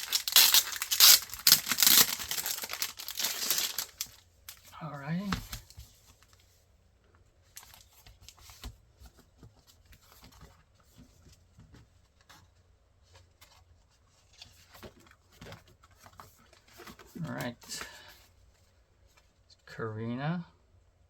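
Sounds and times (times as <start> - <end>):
paper rustling: 0.0 - 6.5, 7.5 - 18.1.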